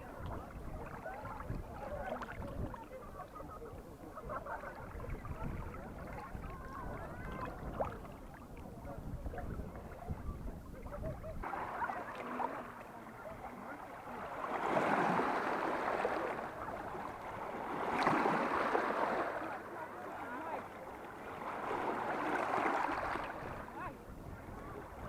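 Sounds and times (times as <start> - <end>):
sea water sloshing and splashing: 0.0 - 25.0.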